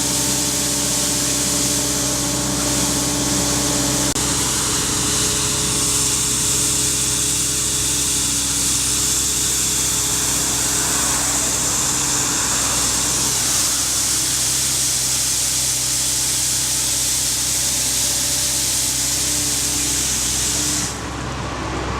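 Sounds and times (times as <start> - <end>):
broom brushing road surface: 0.0 - 21.2
engine hum: 0.0 - 21.9.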